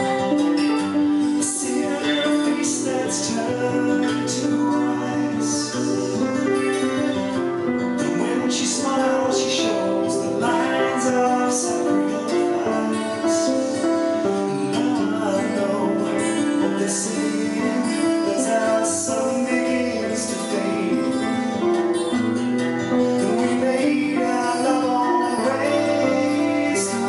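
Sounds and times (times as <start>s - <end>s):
plucked guitar-like part: 0.0s - 27.0s
slow ballad on electronic keyboards: 0.0s - 27.0s.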